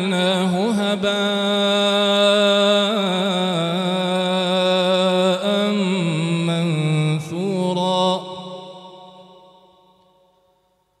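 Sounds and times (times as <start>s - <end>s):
man chanting melodically: 0.0s - 9.7s.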